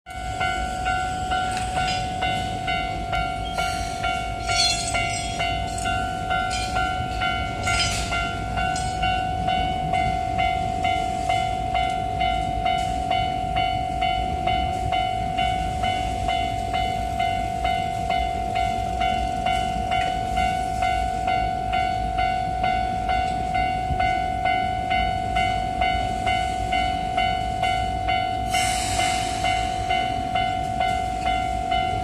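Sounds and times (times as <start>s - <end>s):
low rumble of a train: 0.1s - 32.0s
level crossing bell ringing: 0.2s - 28.5s.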